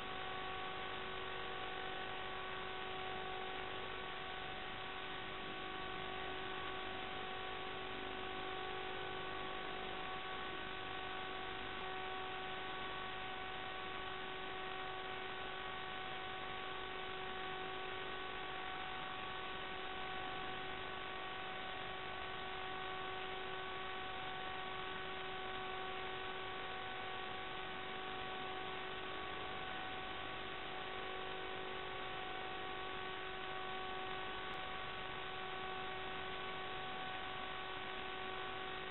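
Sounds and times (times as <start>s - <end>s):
constant hum tone: 0.0s - 38.9s.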